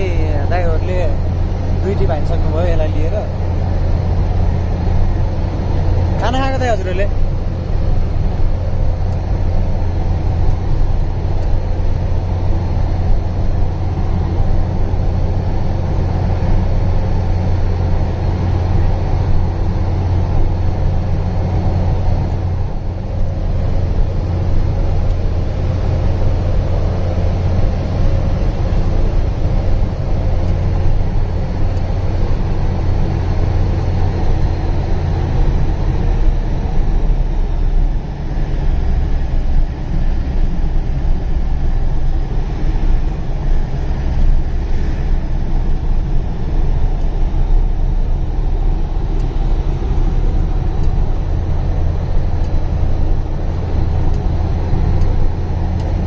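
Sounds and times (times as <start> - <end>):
road noise: 0.0 - 56.0
truck engine rumbling: 0.0 - 56.0.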